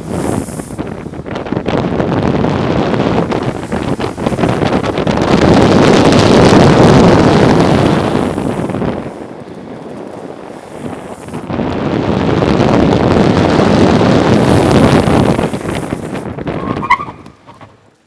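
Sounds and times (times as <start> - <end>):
wind buffeting microphone: 0.0 - 17.9
road rumble: 0.0 - 18.0.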